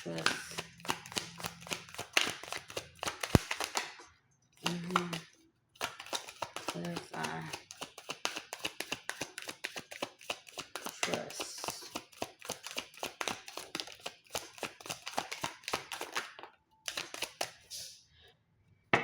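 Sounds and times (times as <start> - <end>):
cards being shuffled: 0.0 - 4.0, 4.6 - 17.7.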